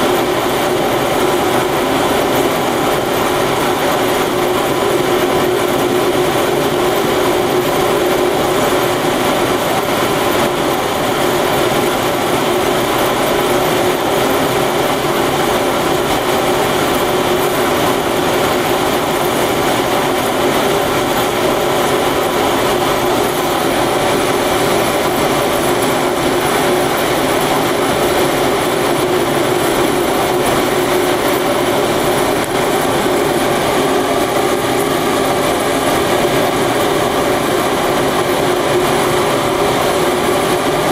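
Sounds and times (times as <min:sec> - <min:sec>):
furnace burner rushing: 0:00.0 - 0:40.9.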